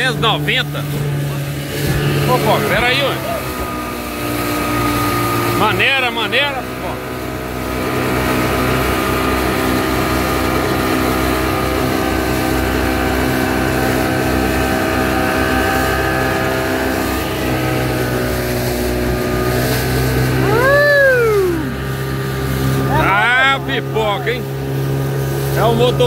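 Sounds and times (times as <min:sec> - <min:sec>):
outboard motor running: 0:00.0 - 0:26.0
water rushing and spray: 0:00.0 - 0:26.0.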